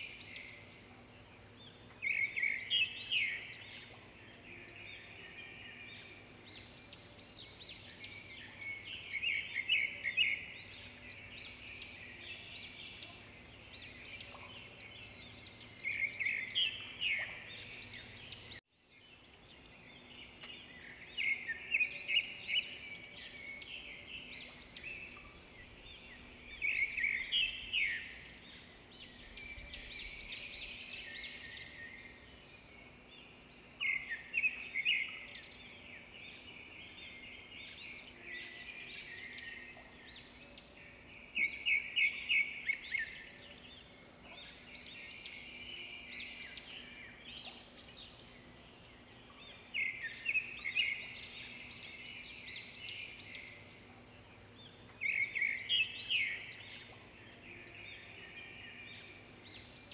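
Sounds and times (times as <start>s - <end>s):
birds chirping softly: 0.0s - 59.9s.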